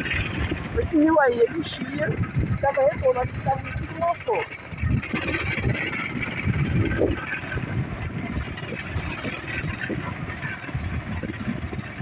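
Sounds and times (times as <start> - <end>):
vehicle running: 0.0 - 12.0
wind buffeting microphone: 0.0 - 12.0.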